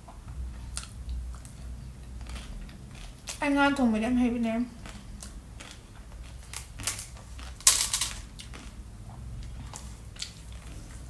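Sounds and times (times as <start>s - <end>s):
person chewing crunchy fruit: 0.0s - 11.0s.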